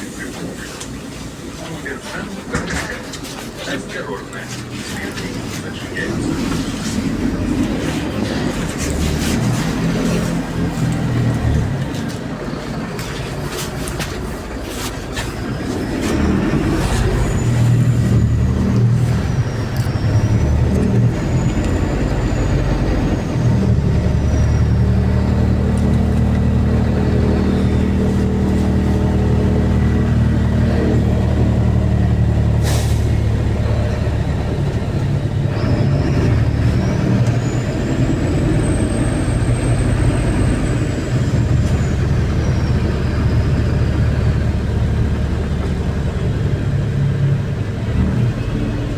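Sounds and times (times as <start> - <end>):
bus engine running: 0.0 - 48.9.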